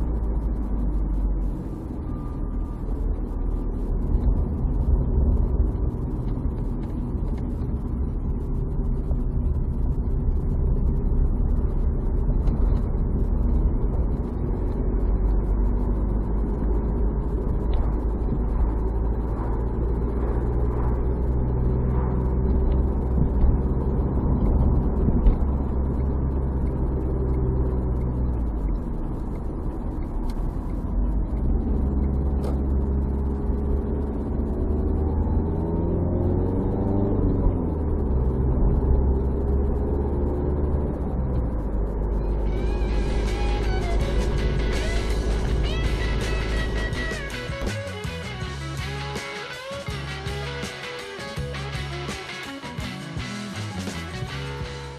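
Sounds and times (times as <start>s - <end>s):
car engine and tyre drone: 0.0s - 54.9s.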